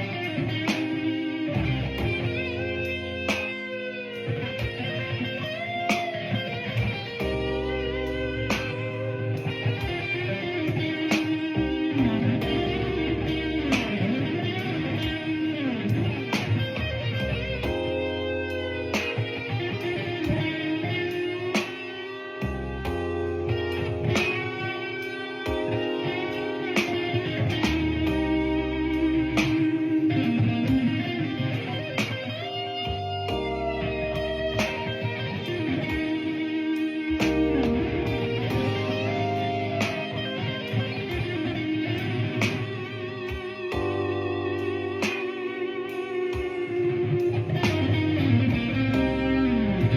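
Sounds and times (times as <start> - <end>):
low bass line: 0.0 - 5.7, 6.5 - 21.6, 22.3 - 49.9
blues electric guitar: 0.0 - 49.9.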